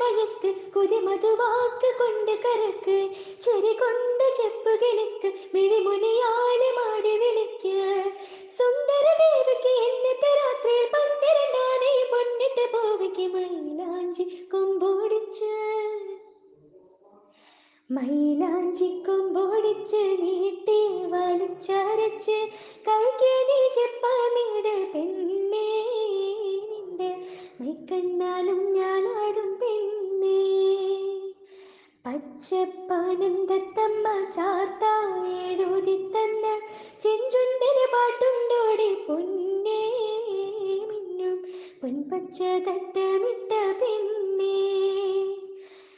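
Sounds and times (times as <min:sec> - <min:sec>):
woman singing: 0:00.0 - 0:16.3, 0:17.9 - 0:45.9.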